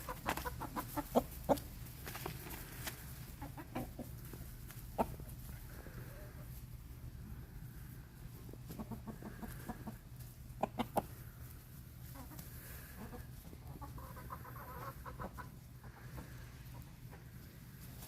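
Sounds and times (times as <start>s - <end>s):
chickens clucking: 0.0s - 18.0s
low steady hum: 0.0s - 18.0s.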